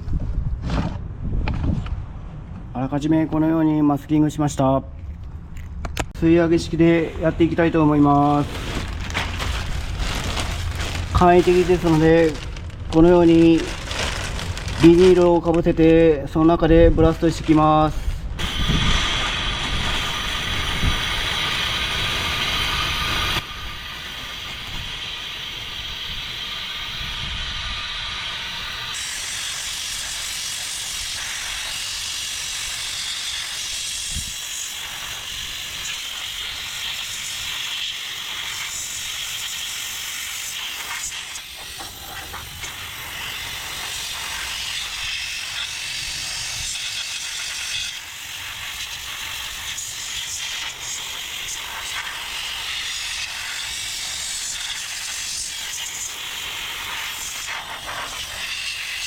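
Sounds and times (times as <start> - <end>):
sandblast gun hissing: 6.6 - 15.8, 17.2 - 59.0.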